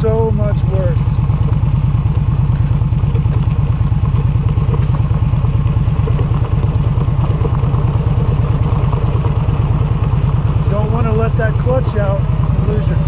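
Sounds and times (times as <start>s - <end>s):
motorcycle engine running: 0.0s - 13.0s
stones clicking under tyres: 1.2s - 12.8s.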